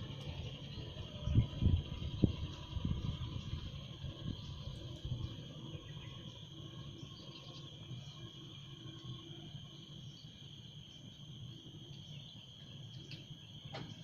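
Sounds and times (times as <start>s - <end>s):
insect chorus chirring: 0.0s - 14.0s
low background rumble: 0.0s - 14.0s.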